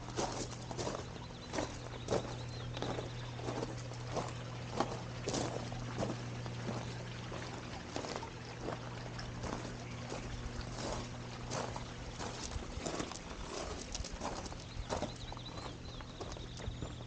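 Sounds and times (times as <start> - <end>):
footsteps walking: 0.0 - 17.0
low hum: 0.0 - 17.0.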